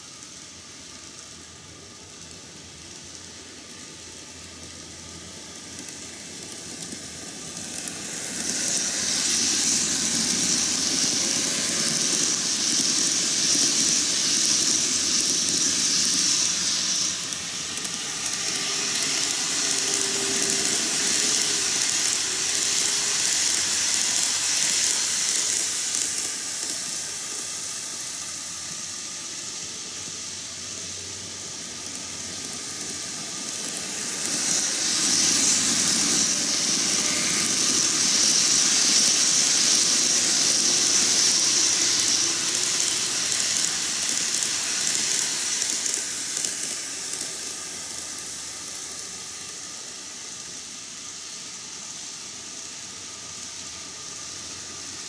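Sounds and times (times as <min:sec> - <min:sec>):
model trains rattling on track: 0:00.0 - 0:55.0.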